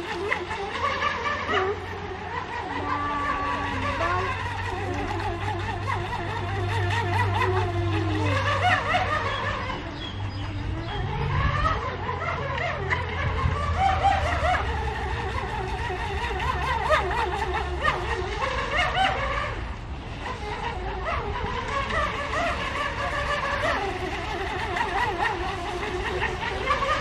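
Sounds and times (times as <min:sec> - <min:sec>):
toy speedboat motor: 0:00.0 - 0:27.0.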